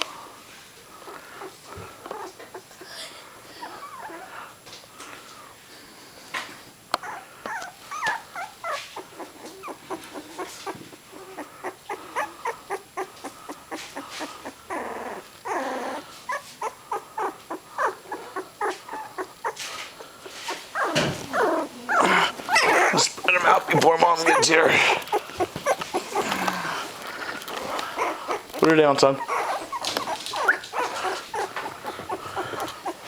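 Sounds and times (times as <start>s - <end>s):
puppies crying: 1.0s - 4.6s, 7.0s - 33.0s.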